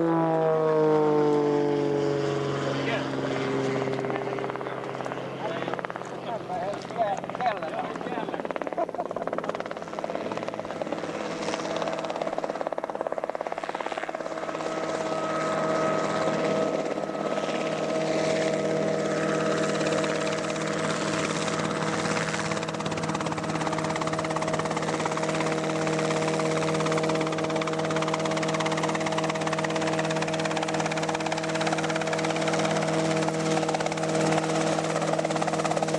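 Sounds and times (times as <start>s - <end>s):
helicopter engine and rotor: 0.0s - 35.9s.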